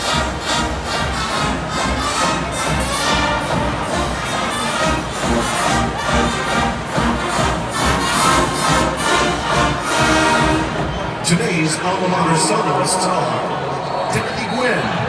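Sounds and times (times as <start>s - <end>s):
marching band playing: 0.0s - 12.2s
stadium crowd noise: 0.0s - 15.0s.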